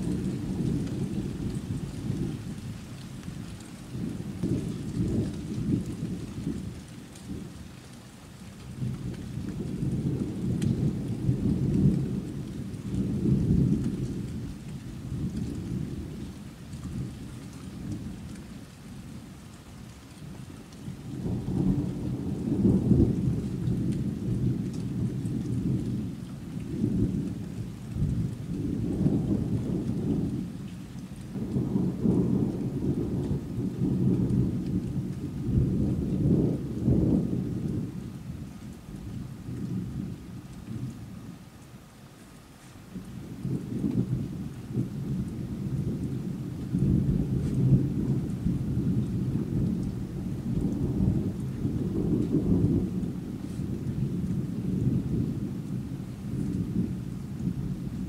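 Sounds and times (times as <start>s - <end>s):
rolling thunder: 0.0s - 2.7s, 3.8s - 7.6s, 8.7s - 16.3s, 21.0s - 30.6s, 31.2s - 41.1s, 42.9s - 58.0s
rain hissing: 0.0s - 58.0s.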